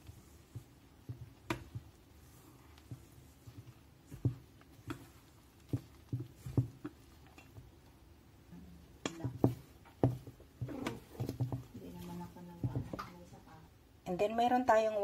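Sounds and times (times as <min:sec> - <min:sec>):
spatula scraping and knocking bowl: 0:00.0 - 0:07.9, 0:08.9 - 0:13.3.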